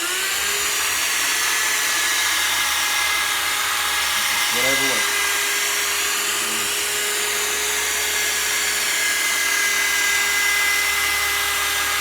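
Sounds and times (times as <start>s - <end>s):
electric drill whine: 0.0s - 12.0s.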